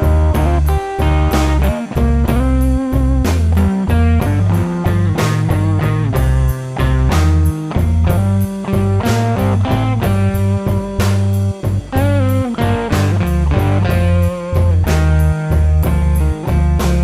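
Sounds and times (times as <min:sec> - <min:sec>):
blues-rock music: 0:00.0 - 0:17.0.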